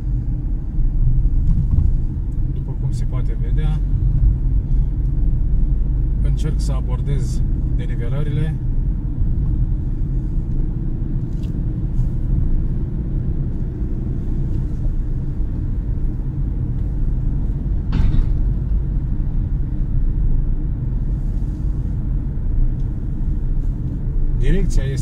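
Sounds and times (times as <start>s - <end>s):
tyre and engine rumble: 0.0s - 25.0s.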